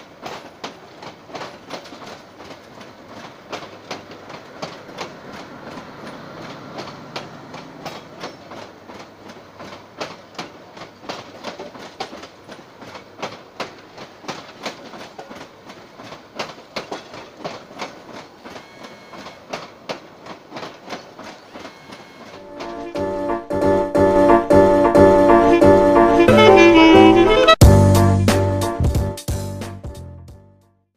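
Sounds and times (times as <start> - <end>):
train wheels clacking over rail joints: 0.0 - 25.5
train rumble: 0.0 - 29.1.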